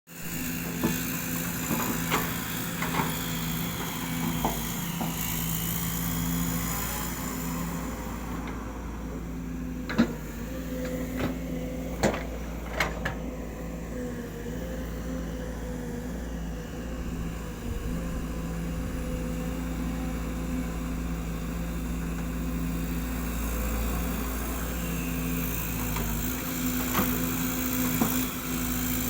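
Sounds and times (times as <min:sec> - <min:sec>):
excavator diesel engine running: 0:00.2 - 0:29.0.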